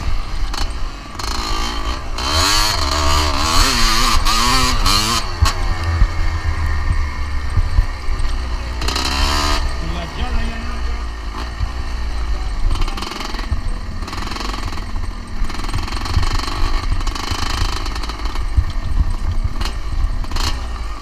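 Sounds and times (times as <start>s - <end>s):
two-stroke motorcycle engine: 0.0s - 21.0s.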